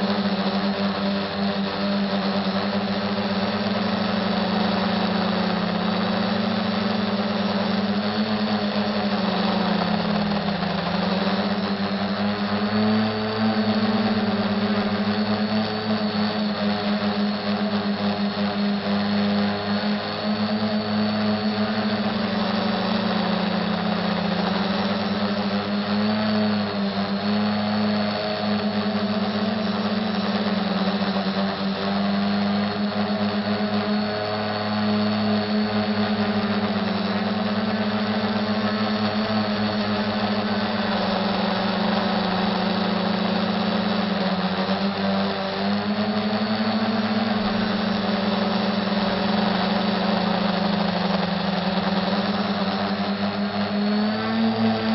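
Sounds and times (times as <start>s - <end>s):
quadcopter motors buzzing: 0.0s - 54.9s.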